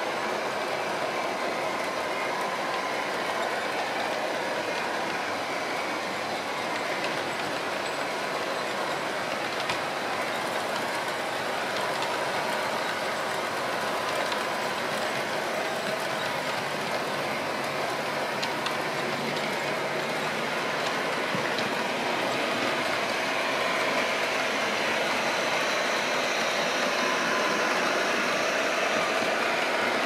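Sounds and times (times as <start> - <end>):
model train wheels rumbling on track: 0.0 - 30.0.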